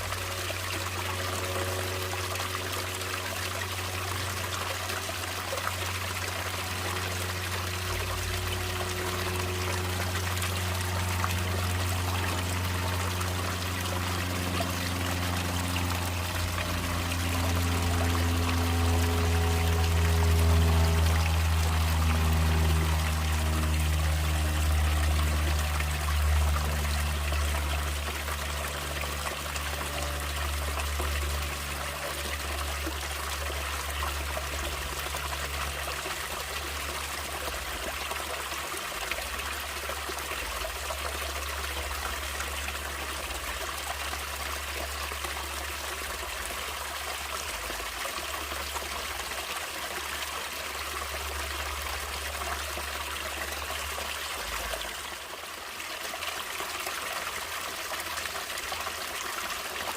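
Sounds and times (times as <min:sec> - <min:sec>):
low sustained tones: 0:00.0 - 0:49.4
stream trickling and rushing: 0:00.0 - 0:59.9.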